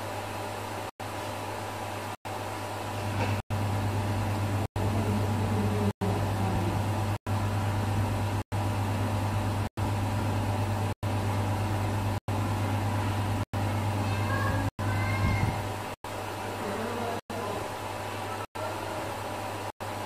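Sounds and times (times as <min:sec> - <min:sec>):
machine hum with hiss: 0:00.0 - 0:20.0.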